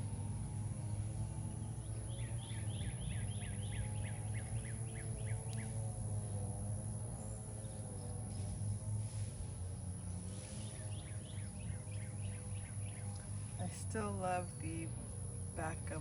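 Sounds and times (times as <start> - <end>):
low machine hum: 0.0 - 16.0
songbird singing: 0.0 - 16.0.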